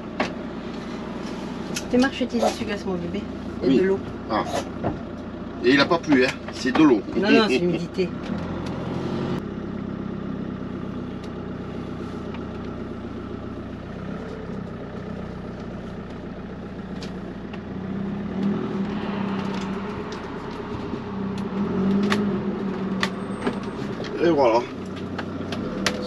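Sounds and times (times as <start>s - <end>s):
van engine humming: 0.0s - 26.0s.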